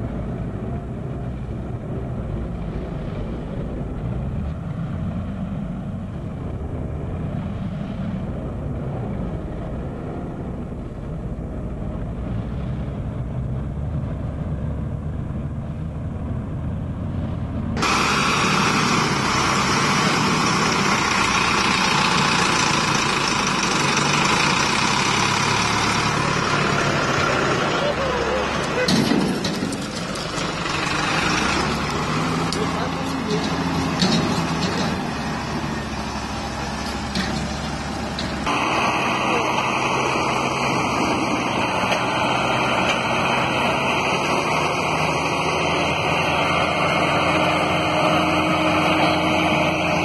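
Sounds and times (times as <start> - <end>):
heavy diesel engines rumbling: 0.0 - 50.0
hissy tractor engine: 0.0 - 50.0.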